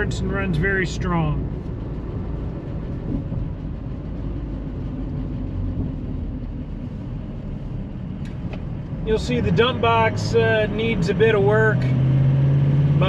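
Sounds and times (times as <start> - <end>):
diesel truck engine running: 0.0 - 13.0
road noise: 0.0 - 13.0.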